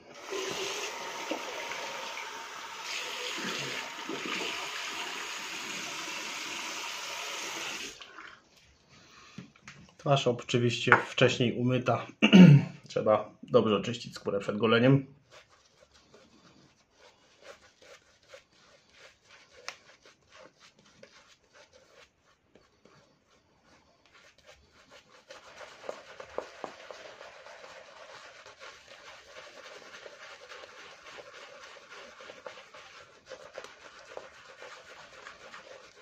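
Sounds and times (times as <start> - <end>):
shaving brush scrubbing lather: 0.1 - 8.0, 14.3 - 36.0.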